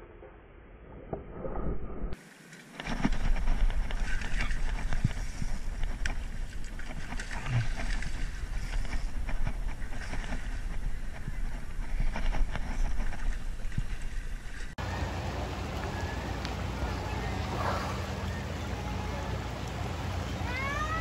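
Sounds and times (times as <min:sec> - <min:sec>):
wind buffeting microphone: 0:02.8 - 0:20.1.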